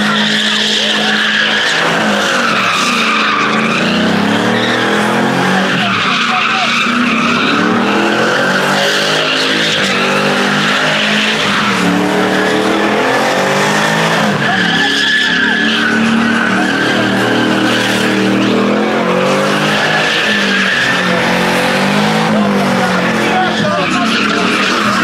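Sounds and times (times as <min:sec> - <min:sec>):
engine revving high: 0:00.0 - 0:25.0
tyres squealing on asphalt: 0:00.0 - 0:25.0.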